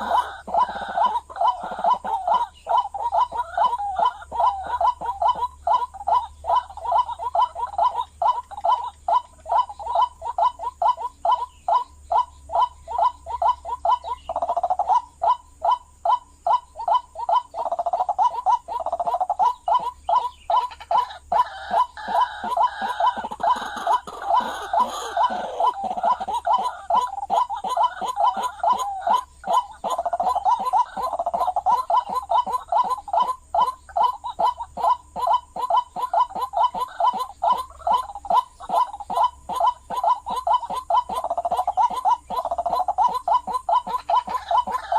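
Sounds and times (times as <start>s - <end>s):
waterhen croaking calls: 0.0s - 44.9s.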